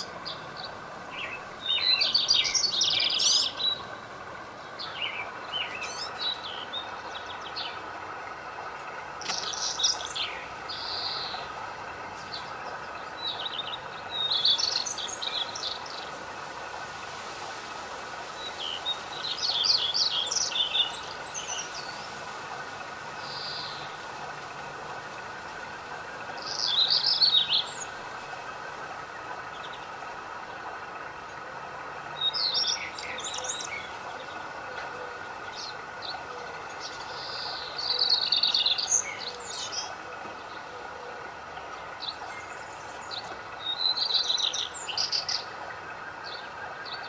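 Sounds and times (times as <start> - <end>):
birds chirping: 0.0 - 16.9, 18.2 - 47.0.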